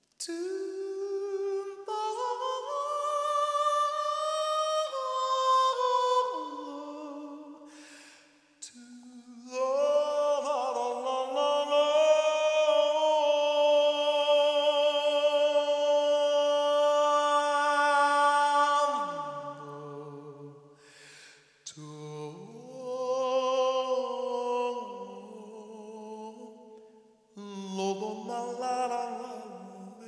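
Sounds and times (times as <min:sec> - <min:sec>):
man singing sustained notes: 0:00.2 - 0:07.8, 0:08.6 - 0:20.6, 0:21.6 - 0:26.8, 0:27.4 - 0:30.0.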